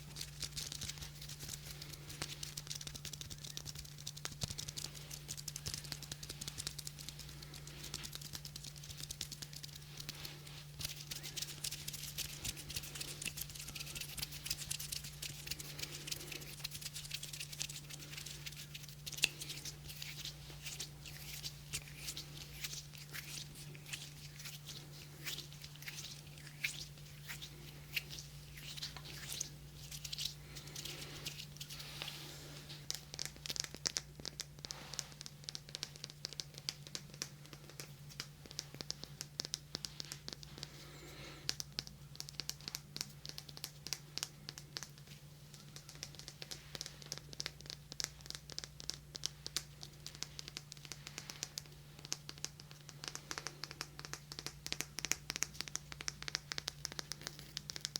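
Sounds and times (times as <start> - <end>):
low electrical hum: 0.0 - 57.9.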